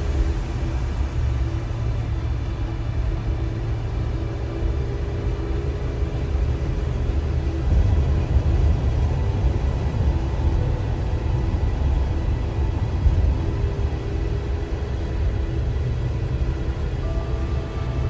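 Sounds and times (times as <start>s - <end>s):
car tyres and engine rumble: 0.0s - 18.0s
faint even hum: 0.0s - 18.0s.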